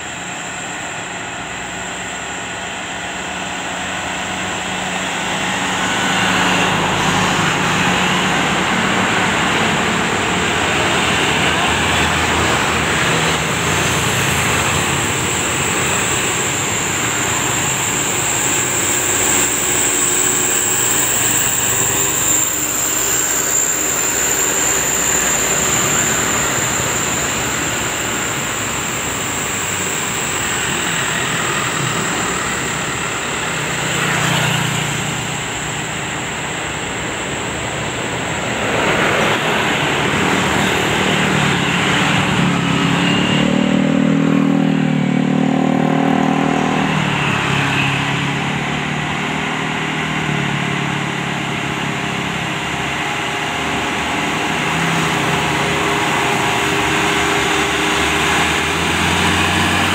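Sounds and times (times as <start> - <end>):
high-pitched whine: 0.0 - 59.9
road traffic passing: 0.0 - 59.9.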